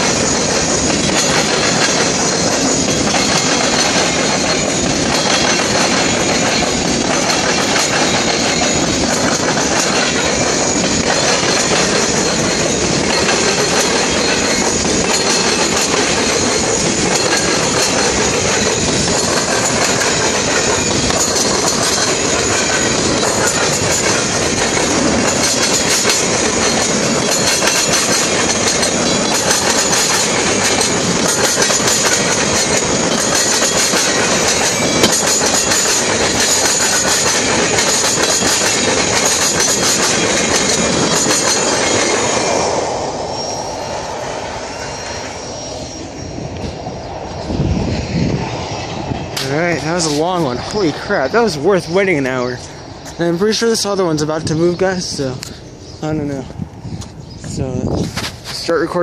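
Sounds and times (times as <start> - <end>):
wheels clacking over rail joints: 0.0 - 46.8, 49.4 - 59.0
freight train rumbling past: 0.0 - 59.0.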